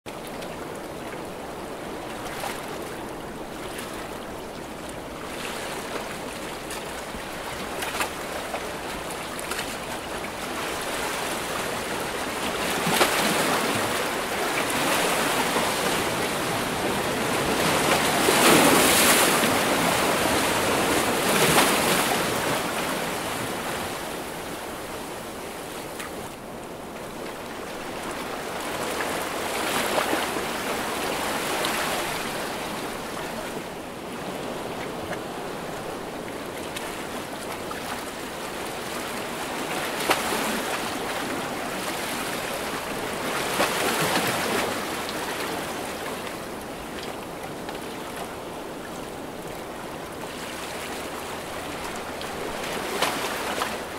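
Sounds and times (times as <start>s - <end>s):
ocean waves breaking: 0.1s - 53.9s.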